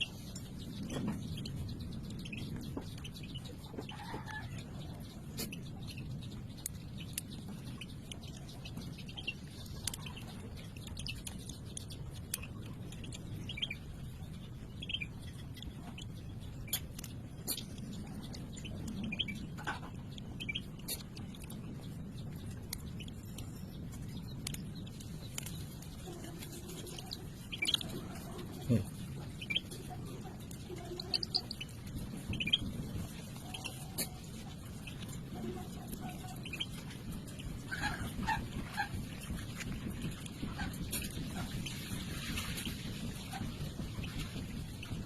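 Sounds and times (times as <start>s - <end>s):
bird chirps: 0.0s - 39.3s
low background rumble: 0.0s - 45.0s.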